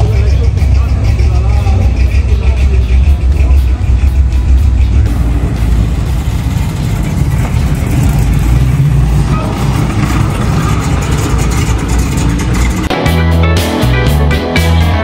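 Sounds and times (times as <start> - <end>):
car engines rumbling past: 0.0 - 14.8.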